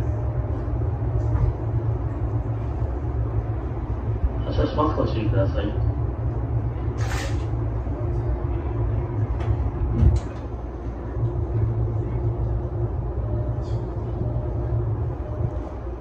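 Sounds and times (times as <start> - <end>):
low hum and rumble in train cab: 0.0 - 16.0.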